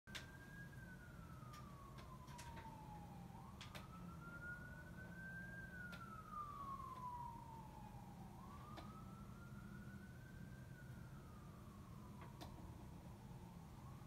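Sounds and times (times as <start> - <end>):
distant fire truck siren wailing: 0.1 - 14.0.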